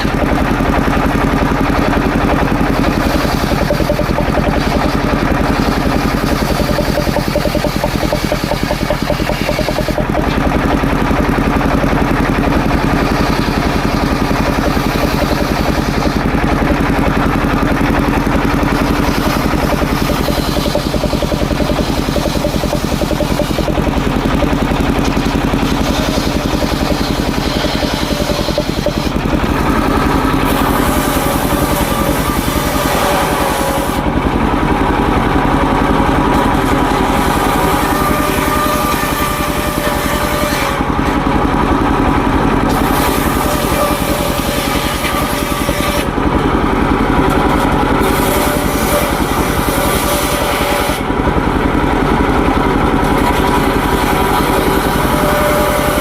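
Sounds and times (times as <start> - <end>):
circular saw cutting wood: 0.0 - 56.0
engine pulsing: 0.0 - 56.0.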